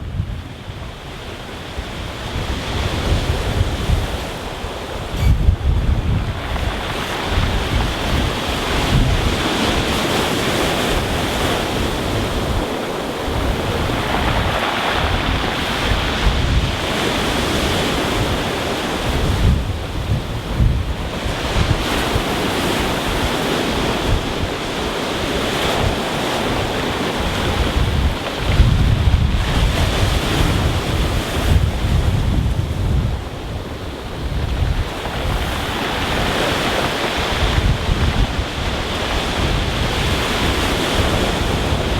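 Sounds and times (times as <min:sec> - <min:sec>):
wind buffeting microphone: 0:00.0 - 0:41.9
waves breaking on pebble beach: 0:00.1 - 0:41.9.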